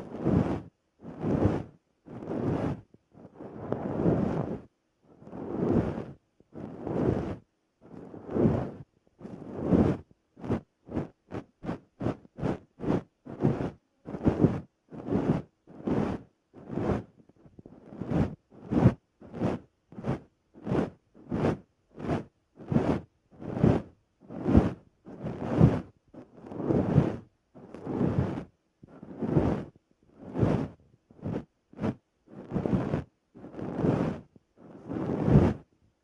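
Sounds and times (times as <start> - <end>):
brush swishing on microphone: 0.0 - 35.7.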